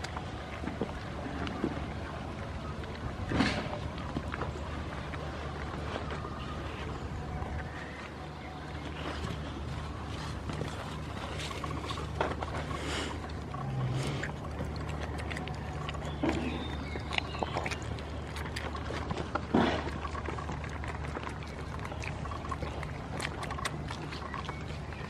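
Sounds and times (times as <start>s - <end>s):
goats munching tomato: 0.0s - 25.0s
steady low hum: 0.0s - 25.0s.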